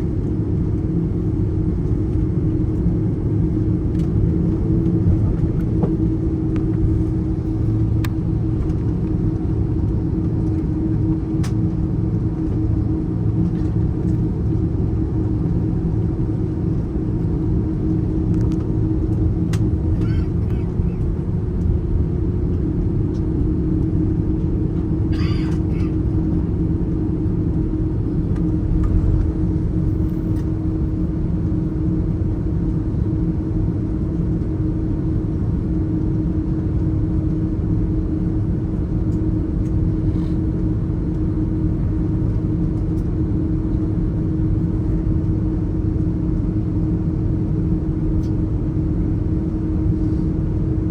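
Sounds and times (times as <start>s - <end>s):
jet engines rumbling in cabin: 0.0s - 50.9s.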